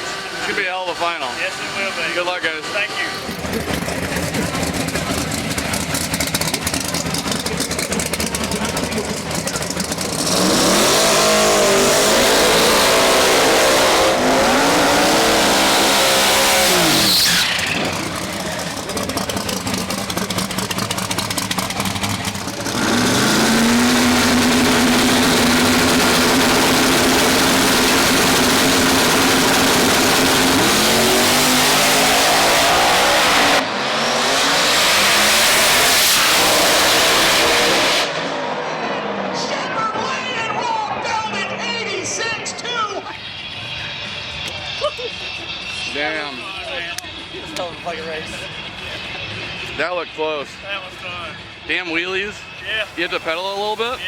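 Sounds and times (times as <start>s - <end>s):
drag racing car engines at full throttle: 0.0s - 54.0s.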